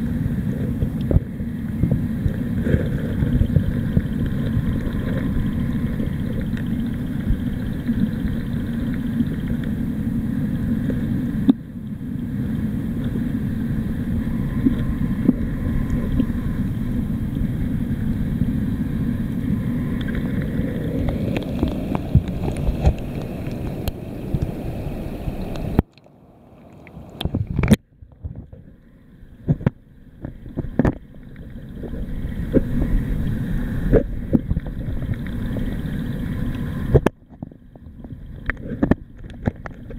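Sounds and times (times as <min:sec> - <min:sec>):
faint steady tones: 0:00.0 - 0:39.9
muffled underwater rumble: 0:00.0 - 0:39.9.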